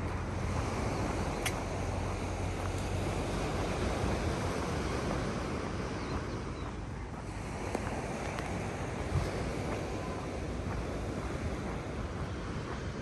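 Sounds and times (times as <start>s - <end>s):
surf washing onto shore: 0.0s - 13.0s
wind buffeting microphone: 0.0s - 13.0s.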